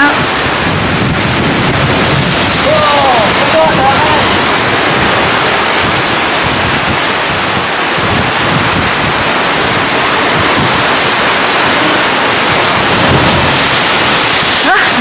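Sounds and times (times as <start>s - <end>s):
sea churning: 0.0s - 15.0s
wind buffeting microphone: 0.0s - 15.0s.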